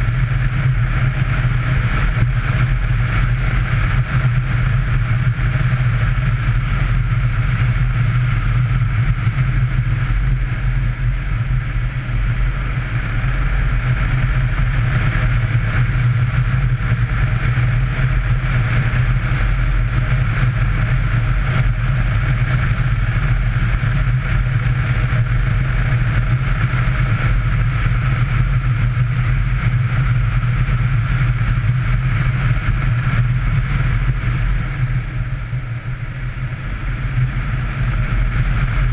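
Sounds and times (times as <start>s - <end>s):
rushing wind noise: 0.0s - 38.9s.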